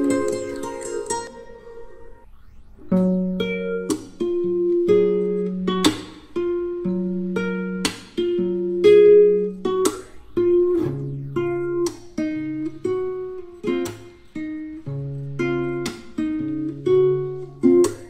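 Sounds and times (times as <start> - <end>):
plucked acoustic guitar: 0.0 - 2.2, 2.9 - 18.0.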